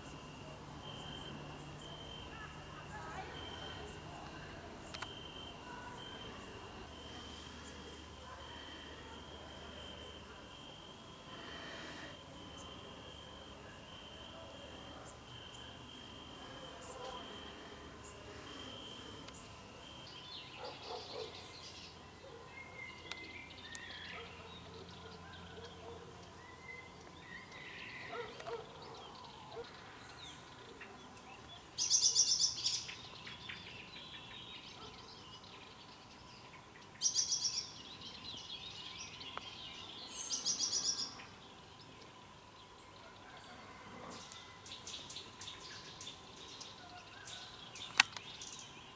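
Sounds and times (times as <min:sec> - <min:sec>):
faint bird chirps: 0:00.0 - 0:48.9
faint steady tone: 0:00.0 - 0:48.9.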